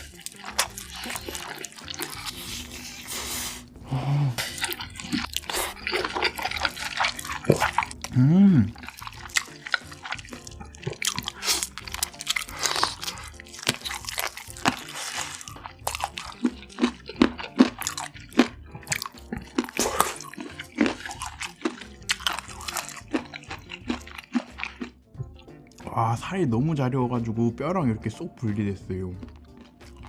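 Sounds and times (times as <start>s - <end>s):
chewing and biting chicken: 0.0s - 3.8s, 4.4s - 25.7s, 29.2s - 30.0s
soft background music: 0.0s - 30.0s.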